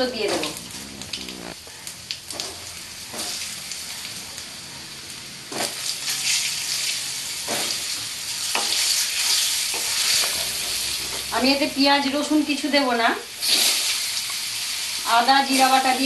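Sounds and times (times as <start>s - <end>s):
potatoes sizzling in hot oil: 2.1s - 16.0s.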